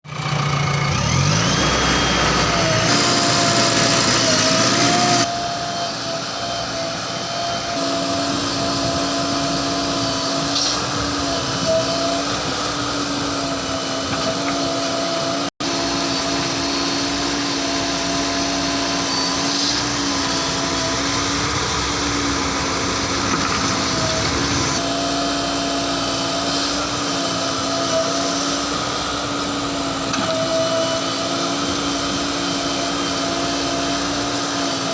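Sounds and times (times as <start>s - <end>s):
diesel engine running: 0.0s - 34.9s
steady whine: 0.2s - 34.9s.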